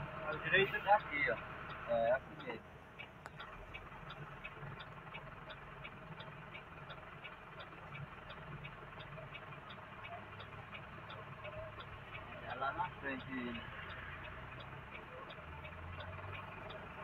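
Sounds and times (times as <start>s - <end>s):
car engine and road noise: 0.0s - 17.0s
turn signal ticking: 0.0s - 17.0s.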